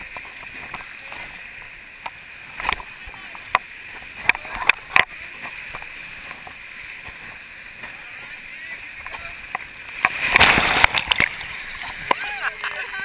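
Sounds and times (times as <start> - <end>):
paddle strokes: 0.0 - 13.0
rapids rushing: 0.0 - 13.0
wave splashing over raft: 0.0 - 13.0.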